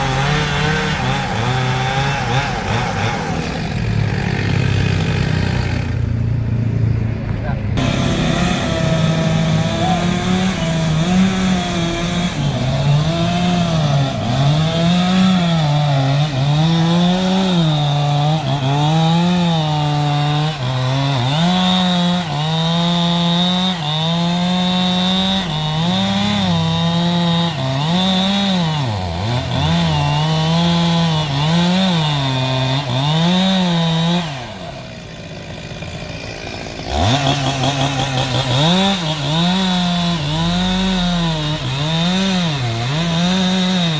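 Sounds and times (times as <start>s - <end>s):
chainsaw cutting wood: 0.0s - 6.1s, 7.8s - 43.9s.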